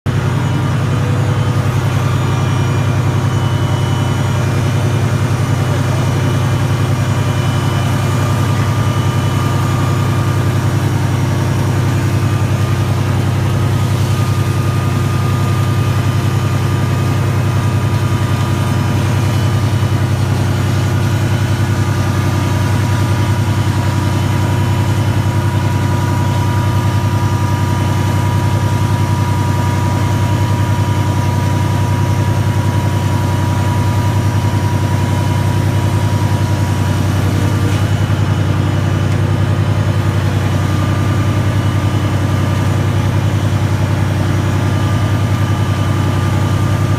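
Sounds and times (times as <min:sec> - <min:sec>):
machinery low drone: 0:00.1 - 0:46.9.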